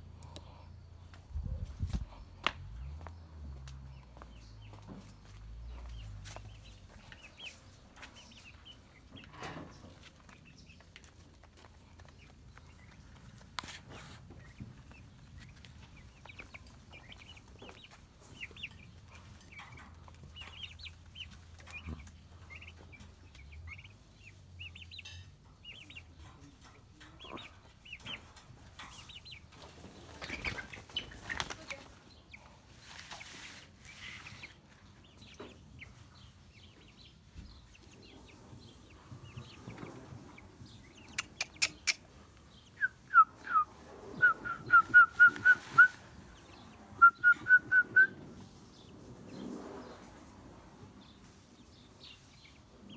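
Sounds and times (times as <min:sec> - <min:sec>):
chicks cheeping and clucking: 0:00.0 - 0:52.9.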